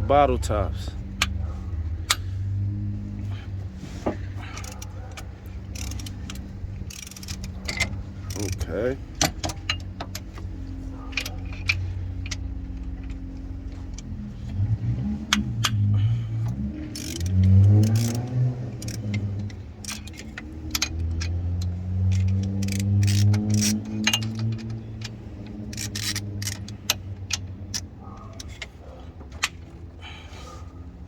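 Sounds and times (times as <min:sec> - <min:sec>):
vehicle engine revving: 0:00.0 - 0:31.0
metallic clicks of hand tools: 0:02.0 - 0:02.3, 0:04.1 - 0:29.8.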